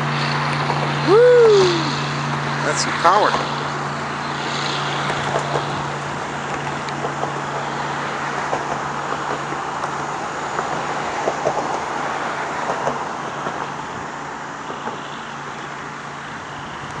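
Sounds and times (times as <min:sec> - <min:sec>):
speedboat engine droning: 0:00.0 - 0:17.0.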